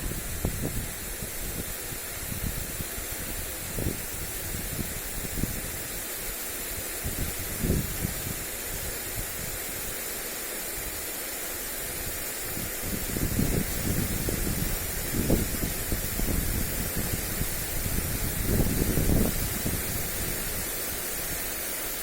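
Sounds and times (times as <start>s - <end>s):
wind buffeting microphone: 0.0s - 6.0s, 6.8s - 9.6s, 12.0s - 21.5s
lawn sprinkler spraying: 0.0s - 22.0s.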